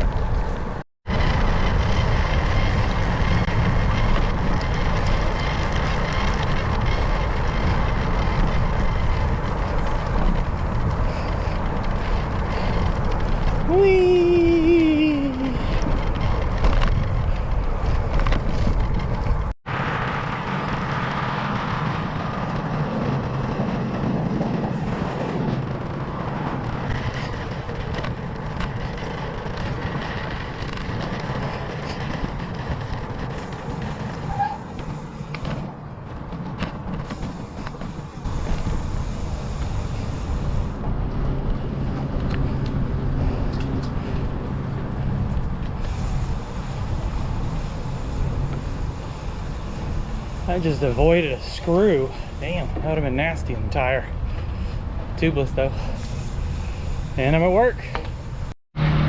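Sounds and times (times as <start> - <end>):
bicycle tyre noise: 0.0 - 59.0
wind rumble on microphone: 0.0 - 59.0.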